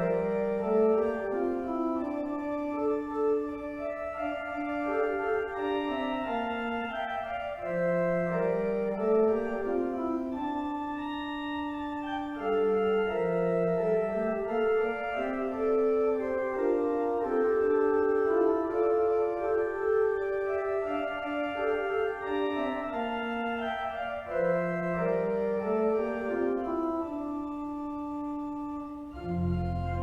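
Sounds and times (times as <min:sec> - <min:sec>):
organ playing slow chords: 0:00.0 - 0:30.0.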